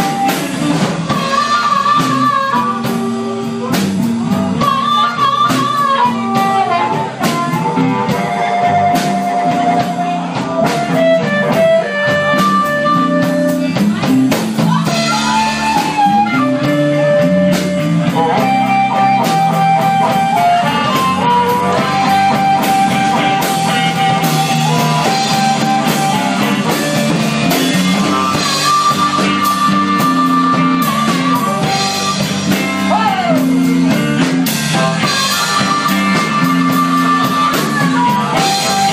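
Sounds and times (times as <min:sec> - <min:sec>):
harmonica bending long notes: 0:00.0 - 0:03.6, 0:04.3 - 0:14.0, 0:14.7 - 0:38.9
drum kit: 0:00.0 - 0:38.9
electric guitar: 0:00.0 - 0:38.9.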